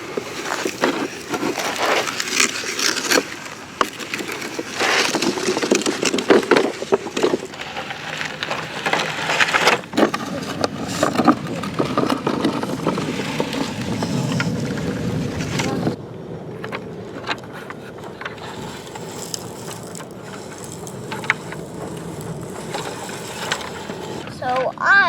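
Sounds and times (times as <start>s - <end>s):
plastic toys scraping sand: 0.0s - 16.0s, 16.6s - 24.8s.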